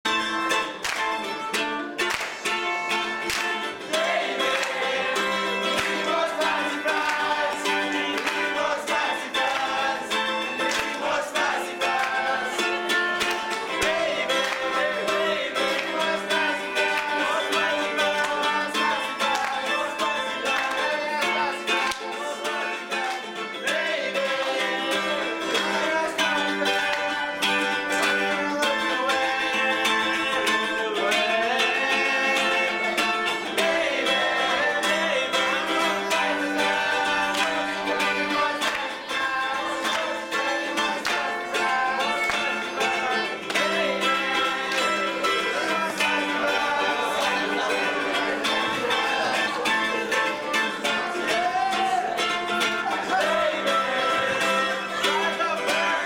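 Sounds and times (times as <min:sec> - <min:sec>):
hand claps: 0:00.0 - 0:55.9
strummed guitar: 0:00.0 - 0:56.0
men singing: 0:02.6 - 0:56.0.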